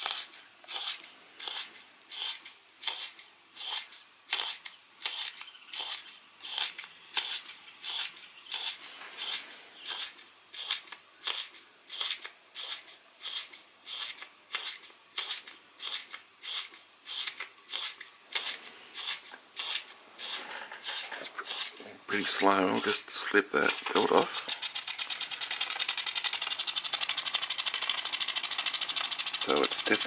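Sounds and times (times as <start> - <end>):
toy steam engine chuffing: 0.0 - 30.0.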